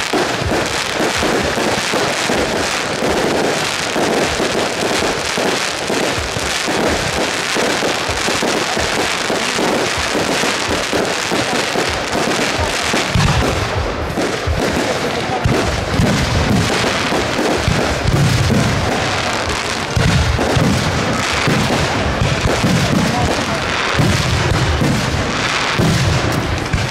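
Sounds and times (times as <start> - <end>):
dense fireworks crackling: 0.0 - 26.9
fireworks shells bursting: 0.0 - 26.9
low fireworks booms: 0.0 - 26.9.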